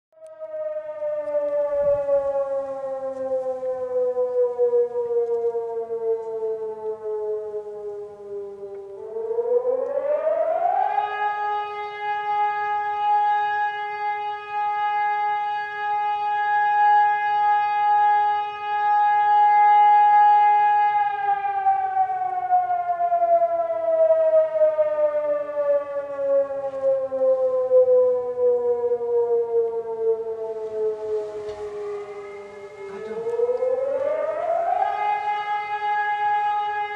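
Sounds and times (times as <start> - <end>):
lower-pitched siren: 0.1 - 36.9
motor-driven siren howling: 0.2 - 36.9.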